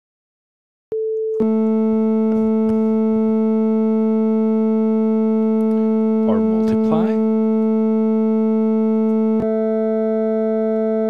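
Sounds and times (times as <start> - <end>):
synthesized buzzy tone: 1.4 - 11.0.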